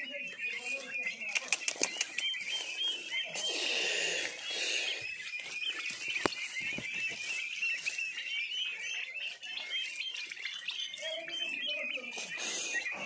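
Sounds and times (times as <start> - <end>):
turkey poults peeping: 0.0 - 13.0.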